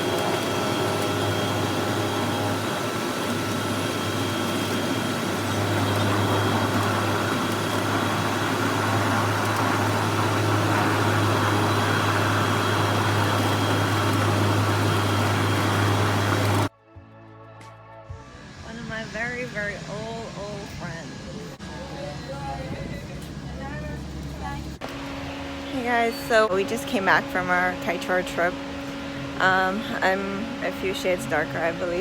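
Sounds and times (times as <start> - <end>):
propeller plane engine drone: 0.0 - 16.7, 18.2 - 32.0.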